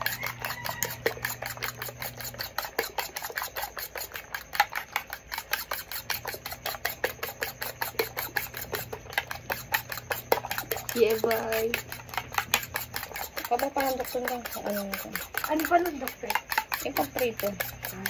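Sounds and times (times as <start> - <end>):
utensil clicking against bowl: 0.0 - 18.0.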